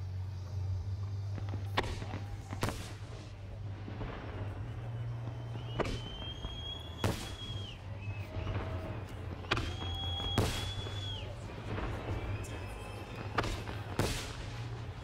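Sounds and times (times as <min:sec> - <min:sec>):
high firework whistles: 0:00.6 - 0:15.0.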